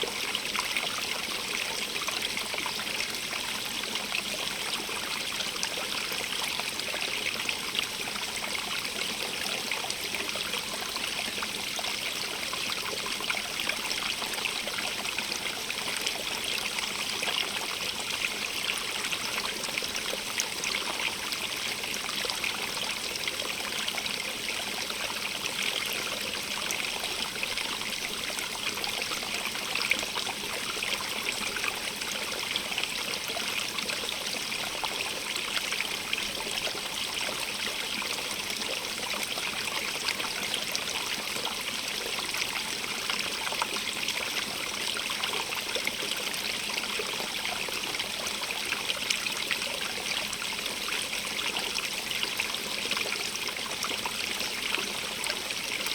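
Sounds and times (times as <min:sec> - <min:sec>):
stream water rushing and trickling: 0:00.0 - 0:55.9.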